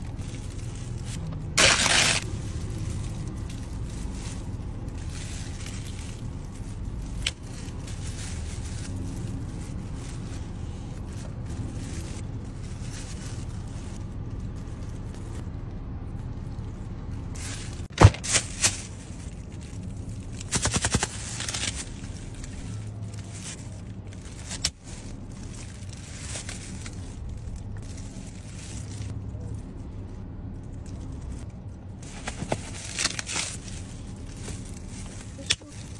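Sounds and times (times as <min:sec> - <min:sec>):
plastic gloves rustling and crackling: 0:00.0 - 0:35.9.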